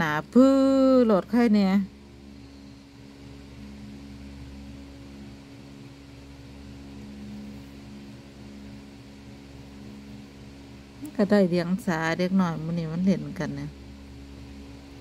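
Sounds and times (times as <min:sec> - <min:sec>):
air conditioner humming: 0:00.0 - 0:15.0
electric fan whirring: 0:00.0 - 0:15.0.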